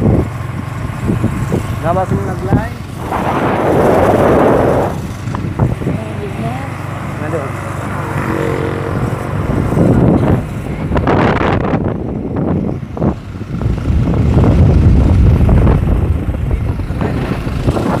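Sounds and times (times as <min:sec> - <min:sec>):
vehicle engine rumble: 0:00.0 - 0:18.0
wind buffeting microphone: 0:00.0 - 0:18.0.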